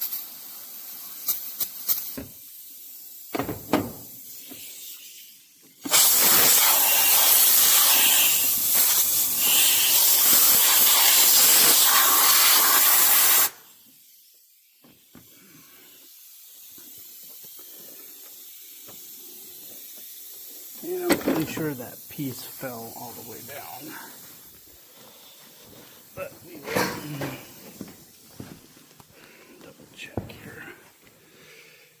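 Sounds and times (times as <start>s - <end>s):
compressed air blow gun hissing: 0.0s - 32.0s.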